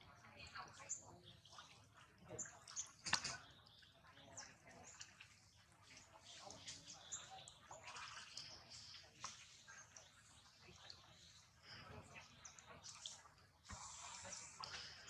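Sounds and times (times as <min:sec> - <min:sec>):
monkeys splashing in water: 0:00.5 - 0:15.0.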